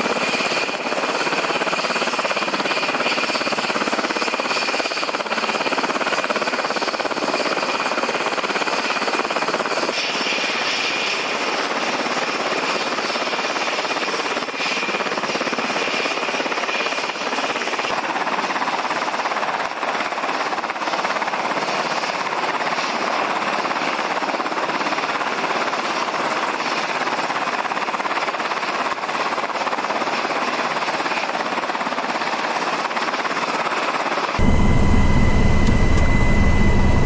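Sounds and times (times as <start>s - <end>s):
helicopter rotor and turbine: 0.0s - 37.0s.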